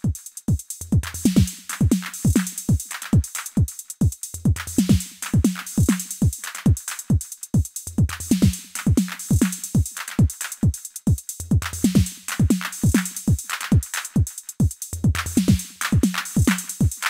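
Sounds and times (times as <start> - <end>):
electronic music with kick beat: 0.0 - 17.0.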